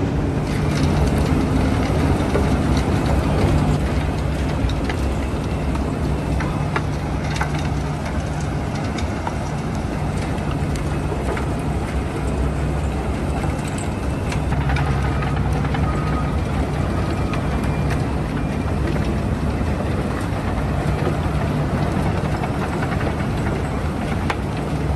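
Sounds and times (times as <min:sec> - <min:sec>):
low machinery hum: 0:00.0 - 0:24.9
machinery clanks: 0:00.0 - 0:24.9.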